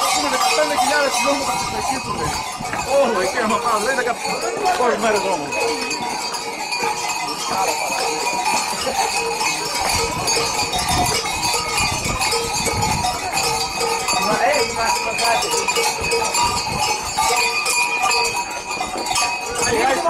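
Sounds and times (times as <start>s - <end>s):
large bells clanging: 0.0s - 20.0s
people's voices in the street: 0.0s - 20.0s.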